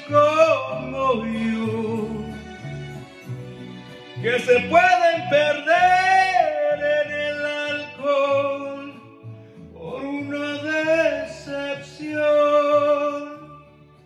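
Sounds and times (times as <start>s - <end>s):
man singing with vibrato: 0.0s - 3.0s, 4.2s - 13.8s
karaoke backing track: 0.0s - 14.0s.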